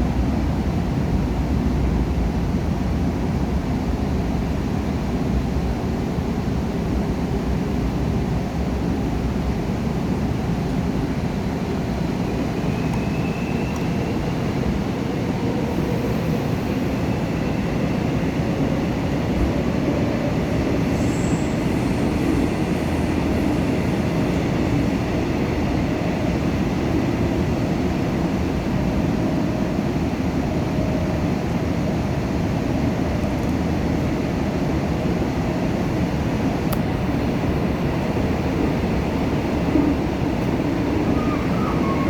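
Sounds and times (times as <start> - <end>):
subway wheels rumbling on rail: 0.0 - 42.0.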